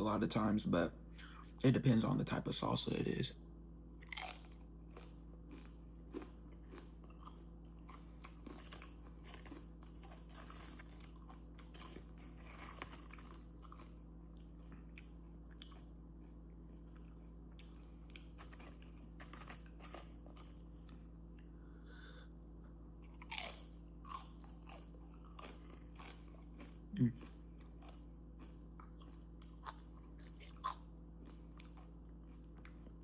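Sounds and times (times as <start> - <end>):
faint steady hum: 0.0 - 33.0
chewing crunchy chips: 3.9 - 21.6, 23.0 - 33.0.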